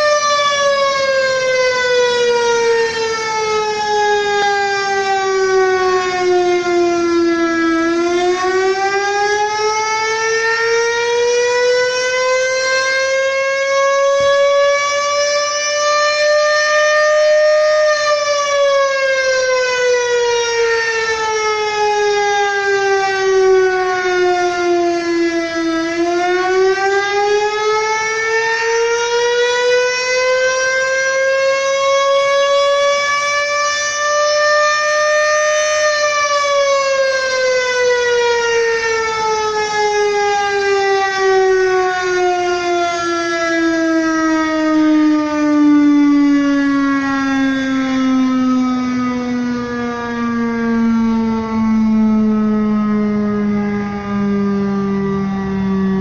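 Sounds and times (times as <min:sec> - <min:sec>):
siren wailing: 0:00.0 - 0:56.0.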